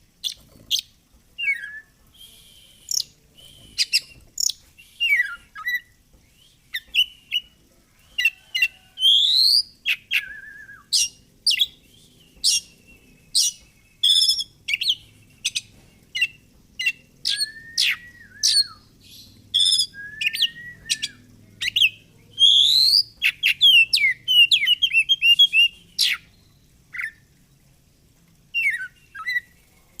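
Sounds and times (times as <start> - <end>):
bird singing whistled notes: 1.4 - 27.2, 28.5 - 29.8.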